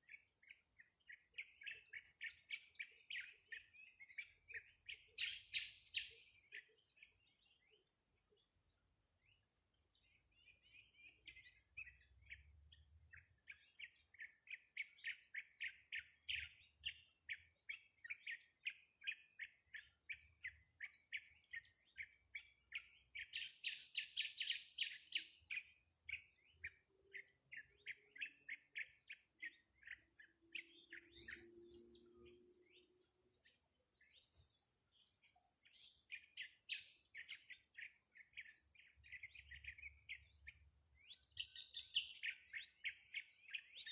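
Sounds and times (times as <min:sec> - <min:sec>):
small bird chirping: 0:00.0 - 0:43.9.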